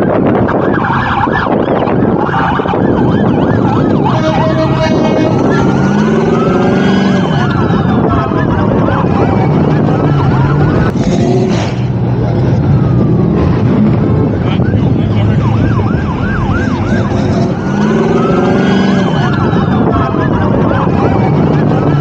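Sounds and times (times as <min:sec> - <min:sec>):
car engines revving: 0:00.0 - 0:22.0
low engine drone: 0:00.0 - 0:22.0.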